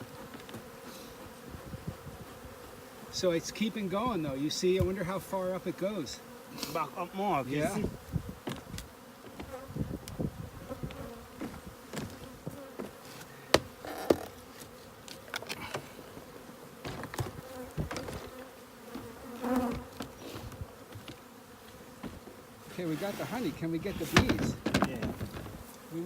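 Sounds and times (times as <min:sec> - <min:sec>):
honeybees buzzing: 0:00.0 - 0:26.0
knocks and scrapes on hive: 0:00.0 - 0:26.0.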